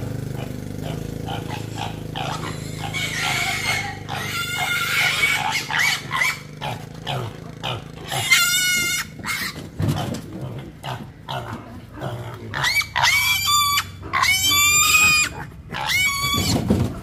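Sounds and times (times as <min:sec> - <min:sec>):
piglets squealing: 0:00.4 - 0:10.1, 0:10.9 - 0:16.7.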